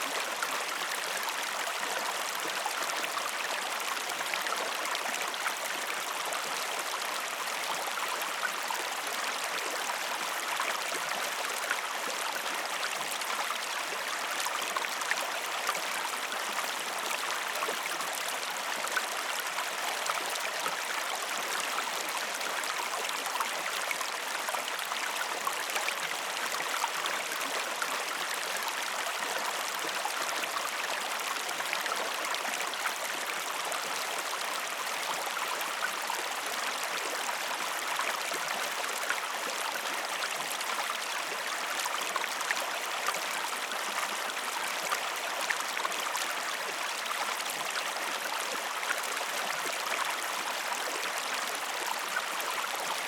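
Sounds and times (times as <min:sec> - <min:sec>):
stream babbling: 0:00.0 - 0:53.0.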